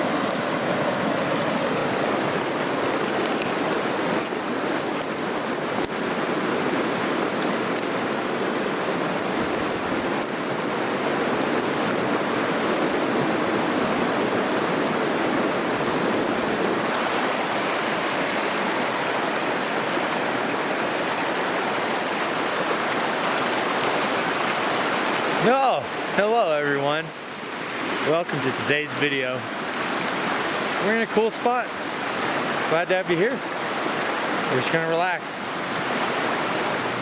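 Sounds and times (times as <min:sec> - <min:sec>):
water running over rocks: 0:00.0 - 0:37.0.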